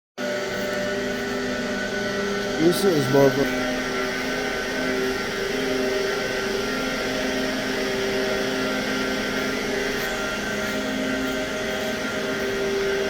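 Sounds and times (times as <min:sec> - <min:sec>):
machine humming: 0:00.2 - 0:13.0.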